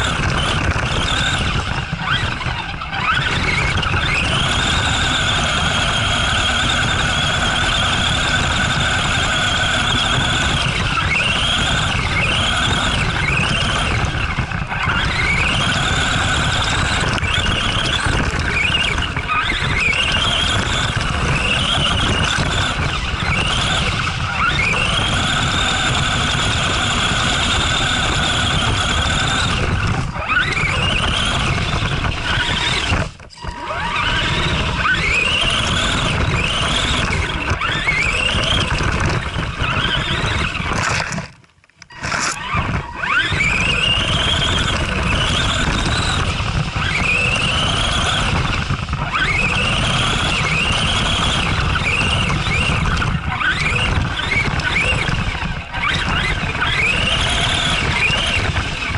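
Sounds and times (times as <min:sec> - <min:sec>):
electric motor whining: 0:00.0 - 0:58.9.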